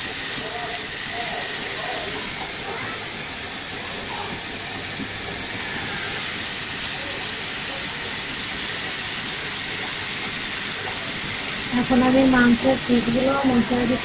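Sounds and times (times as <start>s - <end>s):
paste sizzling in oil: 0.0s - 14.0s.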